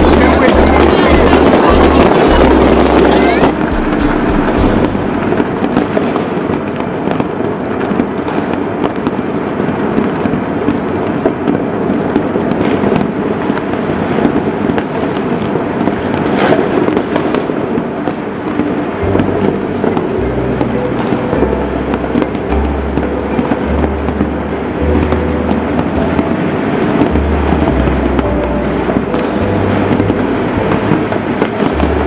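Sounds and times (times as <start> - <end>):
firework booms: 0.0 - 32.0
fireworks crackling and popping: 0.0 - 32.0.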